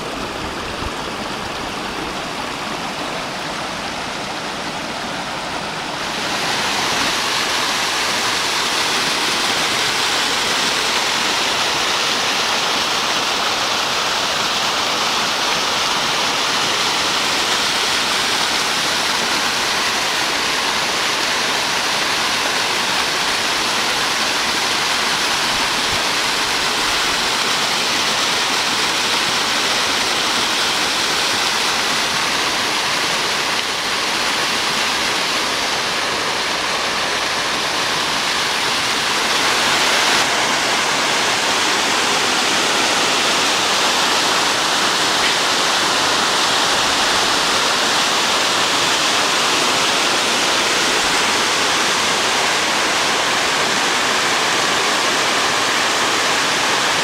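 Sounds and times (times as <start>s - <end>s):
creek water rushing over stones: 0.0s - 57.0s
small waterfall cascading: 0.0s - 57.0s.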